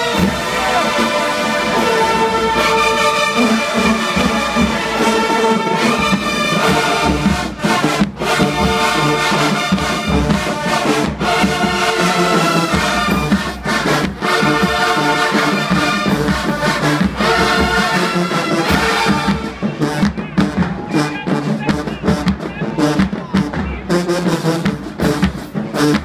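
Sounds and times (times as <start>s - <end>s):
marching band brass playing: 0.0s - 26.0s.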